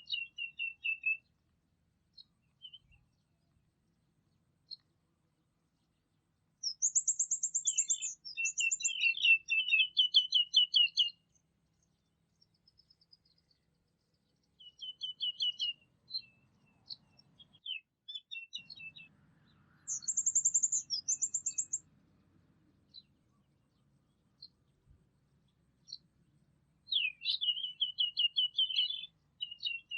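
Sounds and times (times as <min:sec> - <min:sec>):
songbirds singing trills: 0:00.0 - 0:01.5, 0:02.1 - 0:03.6, 0:04.2 - 0:05.0, 0:05.7 - 0:26.1, 0:26.8 - 0:29.9.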